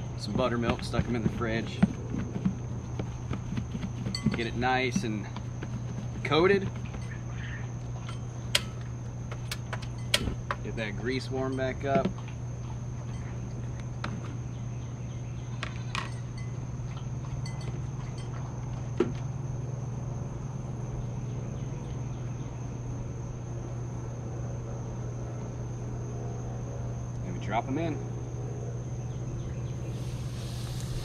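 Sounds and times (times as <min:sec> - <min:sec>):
insects chirping: 0:00.0 - 0:31.0
steady low hum: 0:00.0 - 0:31.0.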